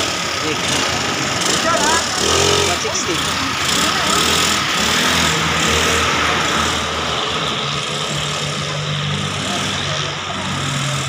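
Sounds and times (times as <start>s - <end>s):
road noise: 0.0s - 11.0s
scooter engine pulling away: 0.0s - 11.0s.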